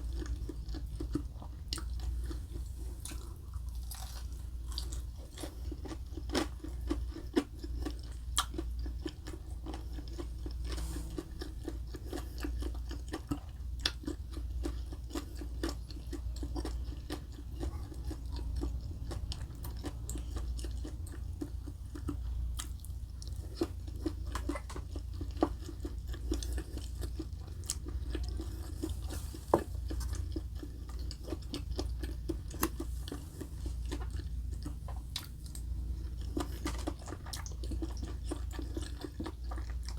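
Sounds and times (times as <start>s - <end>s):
steady low hum: 0.0s - 39.9s
wet crunchy chewing: 0.0s - 39.9s.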